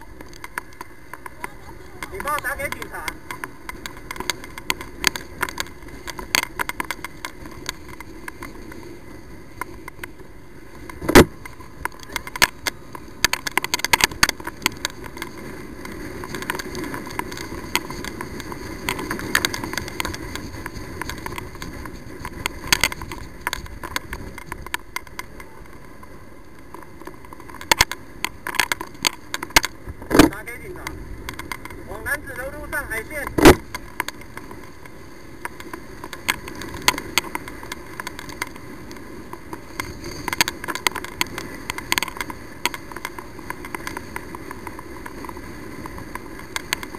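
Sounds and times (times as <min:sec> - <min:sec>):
road and wind rumble: 0:00.0 - 0:46.9
sharp clicks and crackles: 0:00.0 - 0:46.9.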